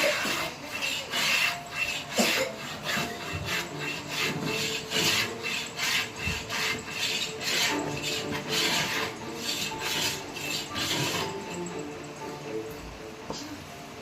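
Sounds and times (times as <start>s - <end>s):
hand file rasping on laminate: 0.0s - 11.8s.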